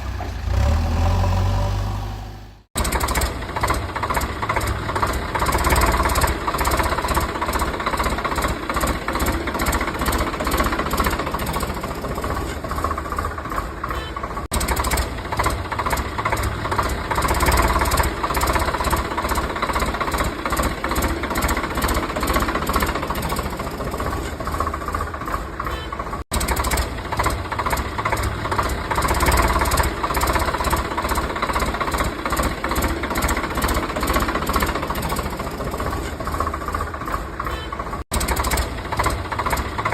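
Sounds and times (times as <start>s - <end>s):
small motor knocking: 2.8s - 13.4s, 14.5s - 25.2s, 26.3s - 37.3s, 38.1s - 39.9s.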